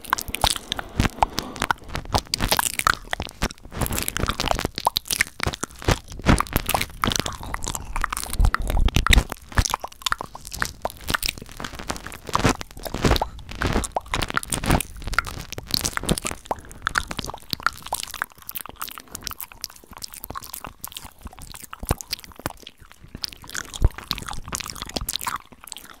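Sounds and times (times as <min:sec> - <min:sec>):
wet tongue and lip clicks: 0:00.0 - 0:26.0.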